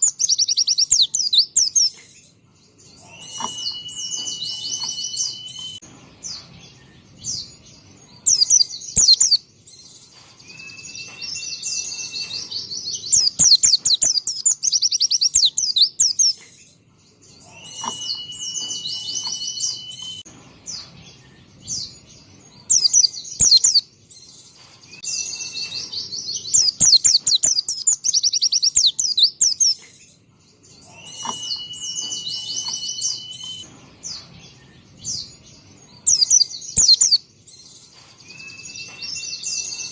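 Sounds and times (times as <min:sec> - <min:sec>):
bird twittering trills: 0:00.0 - 0:39.9.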